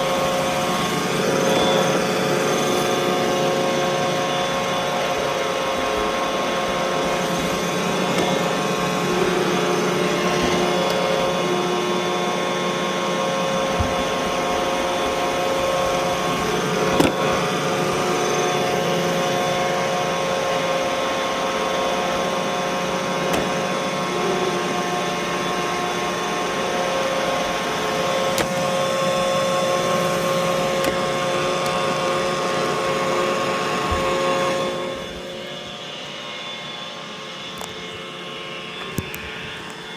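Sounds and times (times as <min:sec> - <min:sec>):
robot vacuum motor whine: 0:00.0 - 0:39.9.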